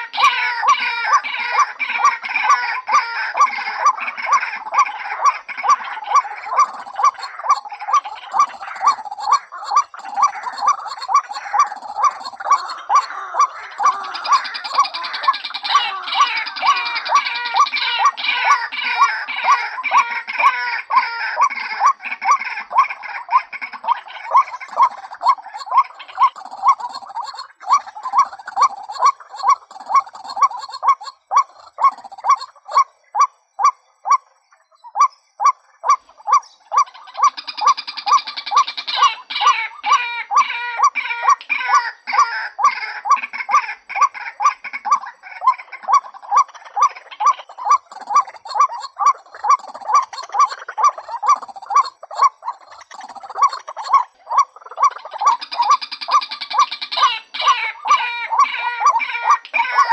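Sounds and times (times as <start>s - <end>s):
harsh gurgling bird chatter: 0.0s - 59.9s.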